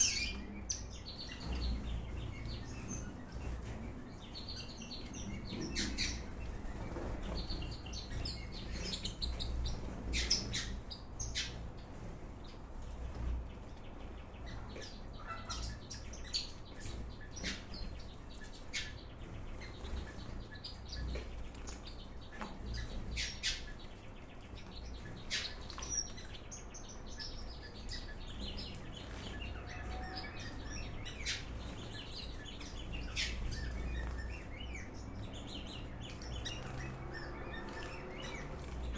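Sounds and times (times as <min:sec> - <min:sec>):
small birds chirping and calling: 0:00.0 - 0:38.9.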